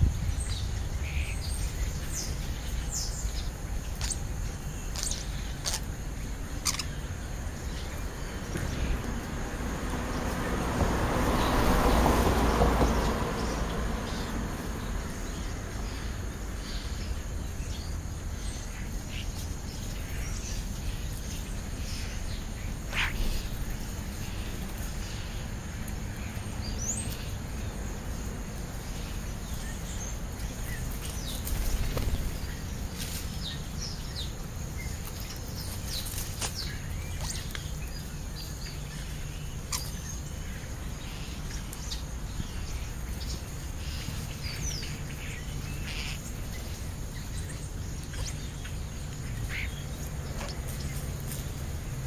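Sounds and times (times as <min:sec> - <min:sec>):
starlings whistling and chattering: 0:00.0 - 0:09.1, 0:13.4 - 0:25.4, 0:28.8 - 0:51.0
low outdoor rumble: 0:00.0 - 0:52.0.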